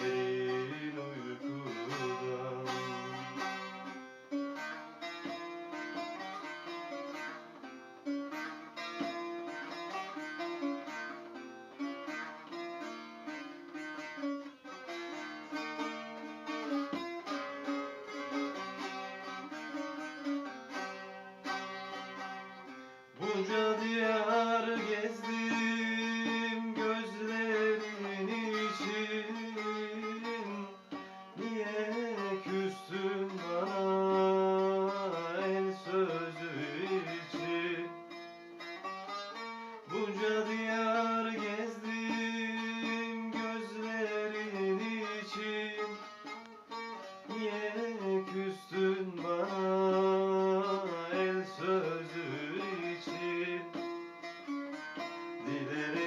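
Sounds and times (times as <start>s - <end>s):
plucked string instrument melody: 0.0s - 56.0s.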